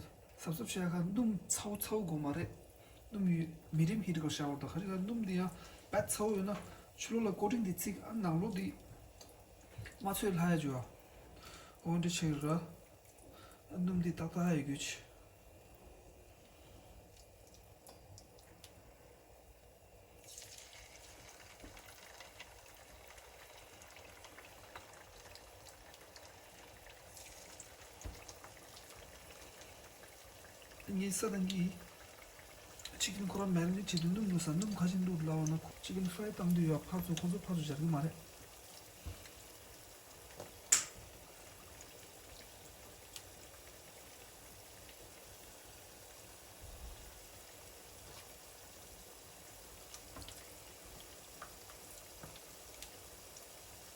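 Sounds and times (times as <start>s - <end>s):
oil sizzling with crackles: 0.0s - 53.9s.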